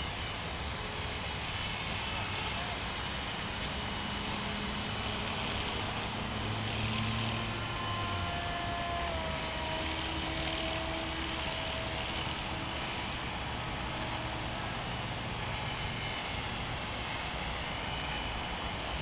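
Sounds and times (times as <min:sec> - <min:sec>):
model helicopter rotor whine: 0:00.0 - 0:19.0.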